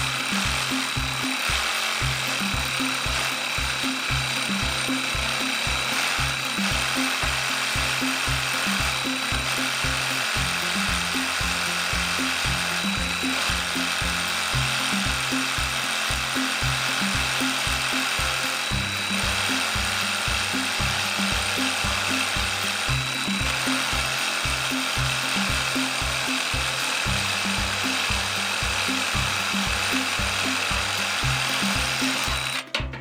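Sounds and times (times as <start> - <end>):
background music with bass beat: 0.0 - 33.0
reciprocating saw cutting wood: 0.0 - 33.0.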